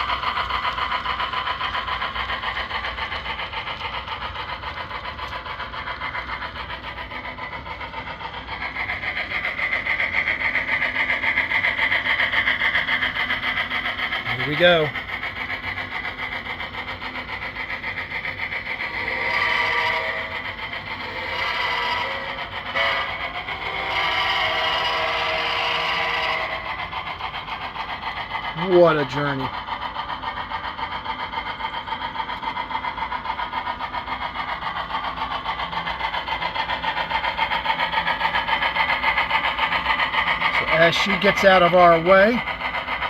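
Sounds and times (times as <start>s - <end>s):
model steam locomotive chugging: 0.0s - 43.0s.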